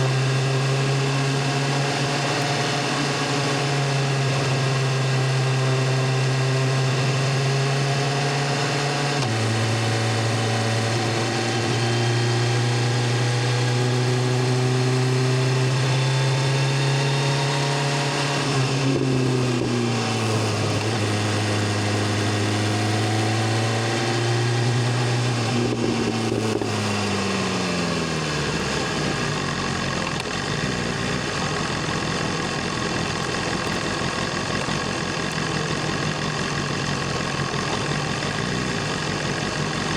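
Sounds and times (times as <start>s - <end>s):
motorcycle engine and exhaust revving: 0.0s - 39.9s.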